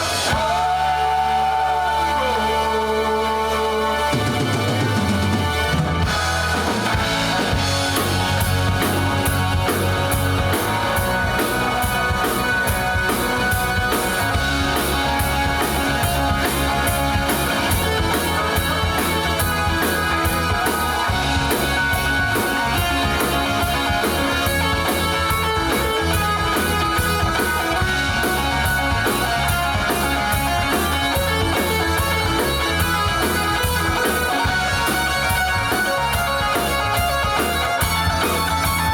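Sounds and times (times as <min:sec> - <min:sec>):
rock music from a radio: 0:00.0 - 0:38.9.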